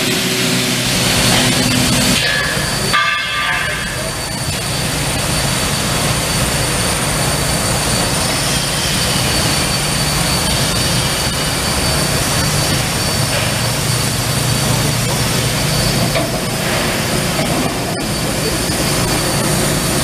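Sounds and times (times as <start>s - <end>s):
cleaning machine rushing noise: 0.0s - 20.0s.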